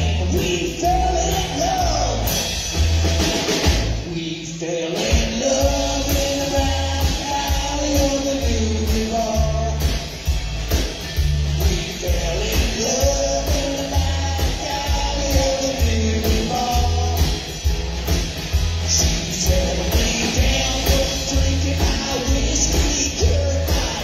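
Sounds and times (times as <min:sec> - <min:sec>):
drum kit: 0:00.0 - 0:24.0
rock and roll band playing live: 0:00.0 - 0:24.0
upright bass: 0:00.0 - 0:24.0.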